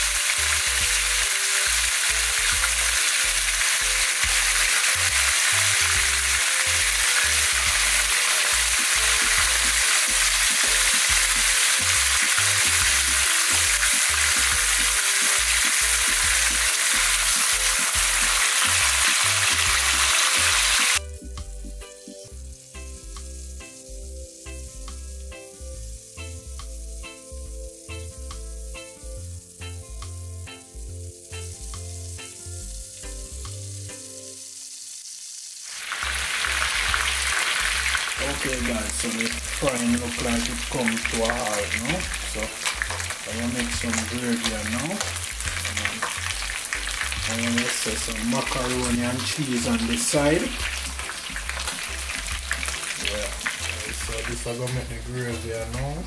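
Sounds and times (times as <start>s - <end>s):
background music: 0.0s - 35.0s, 35.8s - 56.0s
fish sizzling in hot oil: 0.0s - 56.0s.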